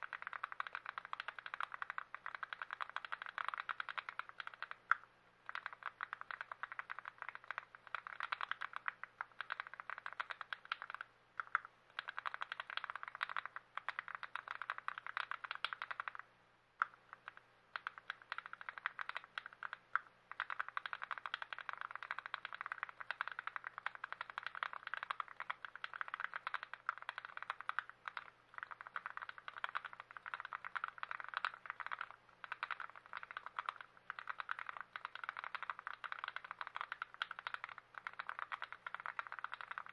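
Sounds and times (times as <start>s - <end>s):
fast typing on mechanical keyboard: 0.0s - 16.2s, 16.8s - 39.9s.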